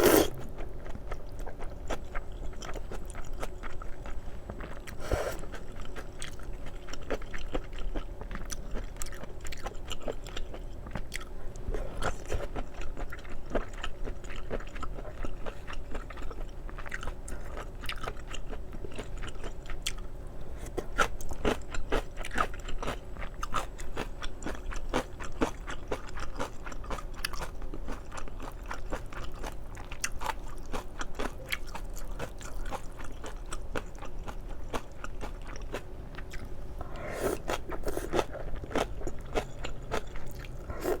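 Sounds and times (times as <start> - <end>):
close chewing with wet mouth clicks: 0.0 - 20.0, 21.0 - 36.5.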